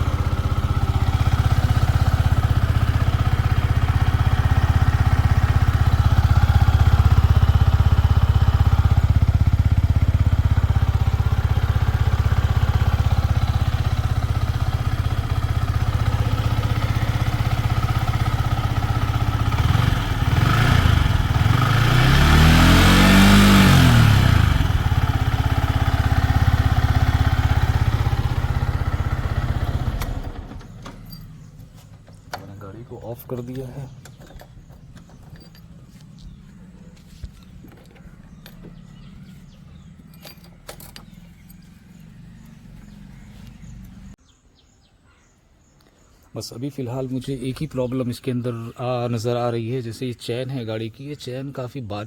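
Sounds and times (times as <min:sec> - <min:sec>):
motorcycle engine idling and revving: 0:00.0 - 0:44.8.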